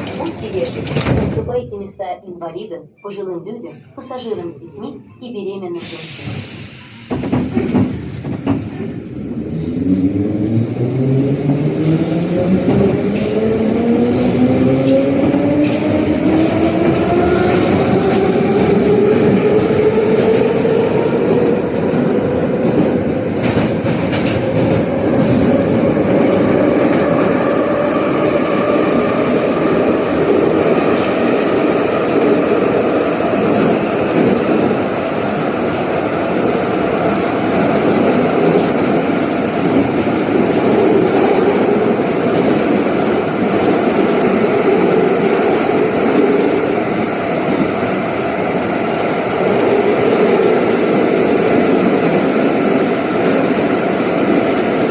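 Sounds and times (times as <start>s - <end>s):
rumble of train wheels: 0.0s - 54.9s.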